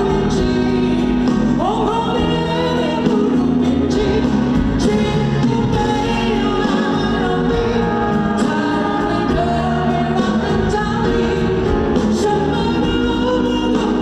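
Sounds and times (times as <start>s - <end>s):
live pop song with band: 0.0s - 14.0s.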